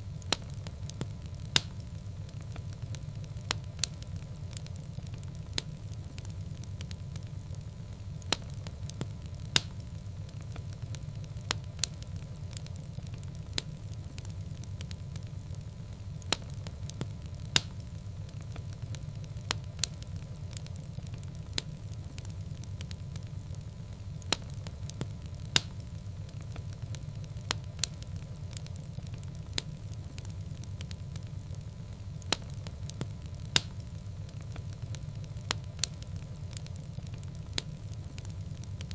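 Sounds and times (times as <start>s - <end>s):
fire crackling pops: 0.0s - 38.9s
fire flames rumbling: 0.0s - 38.9s.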